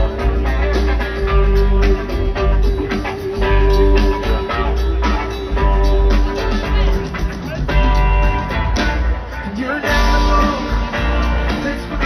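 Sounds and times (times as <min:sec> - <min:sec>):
drums: 0:00.0 - 0:12.0
heavy bass: 0:00.0 - 0:12.0
live rock band: 0:00.0 - 0:12.0.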